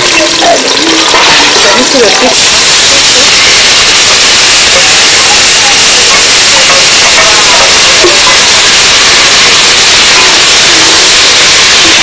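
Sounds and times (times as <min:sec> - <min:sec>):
steam hissing from cooking pot: 0:00.0 - 0:12.0.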